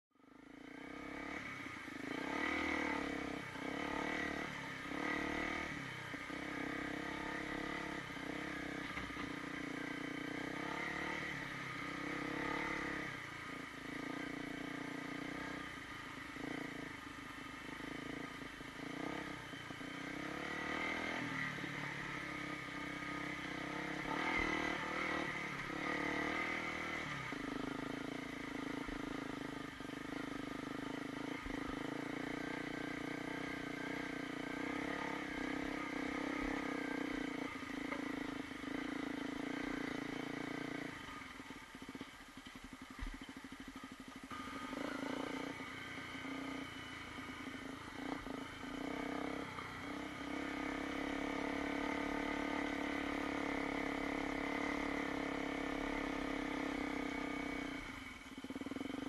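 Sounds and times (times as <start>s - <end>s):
dirt bike engine revving: 0.6s - 42.0s, 43.1s - 59.0s.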